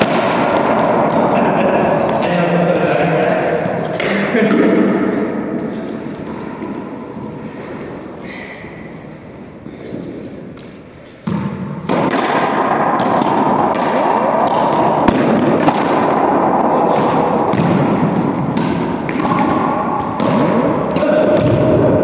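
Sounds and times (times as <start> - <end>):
racquetball cracking off racquets and walls: 0.0 - 7.0, 8.8 - 22.0
echoing court noise: 0.0 - 22.0.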